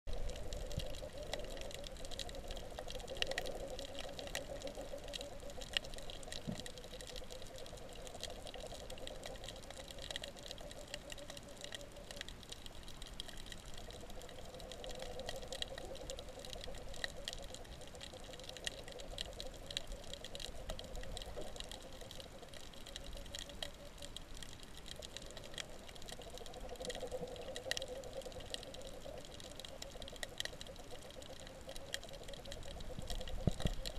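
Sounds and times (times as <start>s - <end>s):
underwater crackling clicks and pops: 0.1s - 33.9s.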